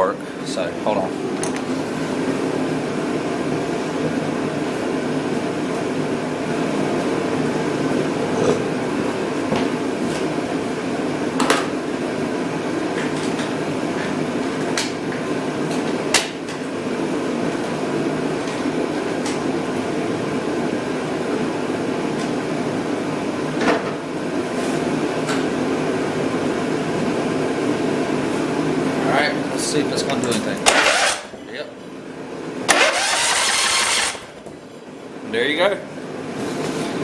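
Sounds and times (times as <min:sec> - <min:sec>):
shop heater droning: 0:00.0 - 0:37.0.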